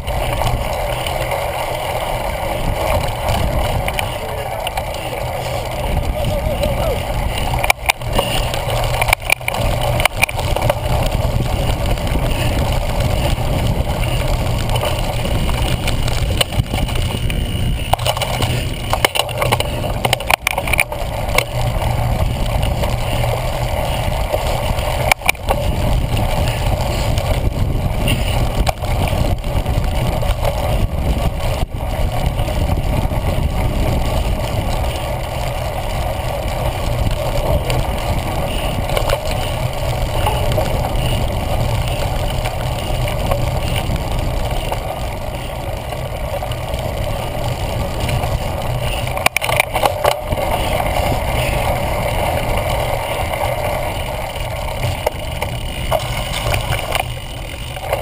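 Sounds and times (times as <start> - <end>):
bike knocking on bumps: 0.0 - 58.0
bike rattling over bumpy grass: 0.0 - 58.0.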